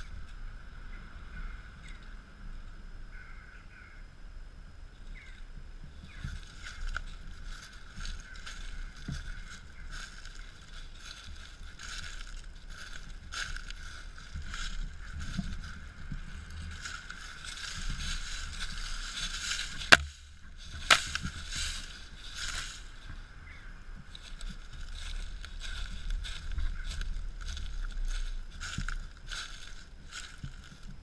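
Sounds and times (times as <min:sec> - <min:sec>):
dry leaves crunching underfoot: 0:05.2 - 0:31.0.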